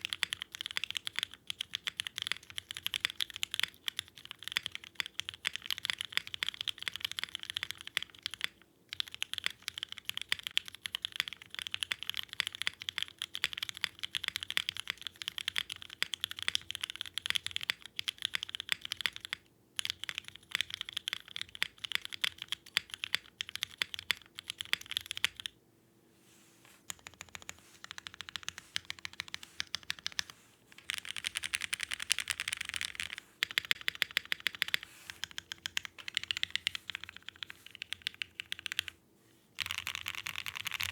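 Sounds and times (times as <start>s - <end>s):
mechanical keyboard typing: 0.0s - 25.6s, 26.9s - 38.9s, 39.6s - 40.9s.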